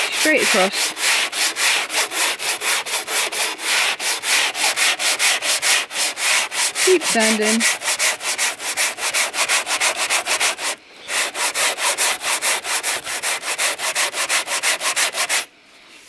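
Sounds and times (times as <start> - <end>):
sanding block rasping on filler: 0.0 - 15.5.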